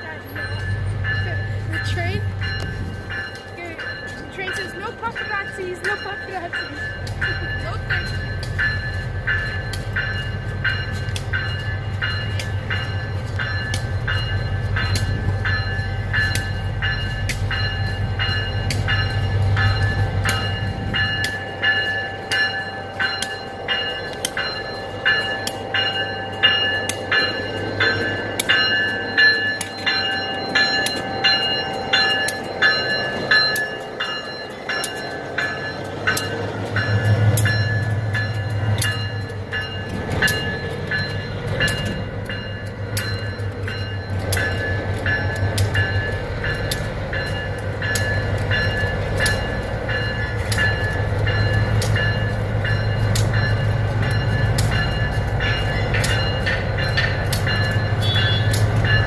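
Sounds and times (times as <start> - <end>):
locomotive bell ringing: 0.0 - 59.0.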